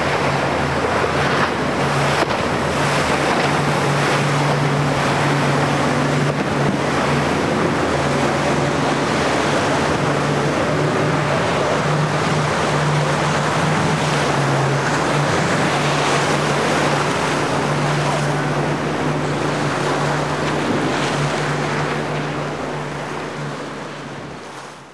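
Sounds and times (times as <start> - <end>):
outboard motors droning: 0.0 - 24.9
rushing spray and wake: 0.0 - 24.9.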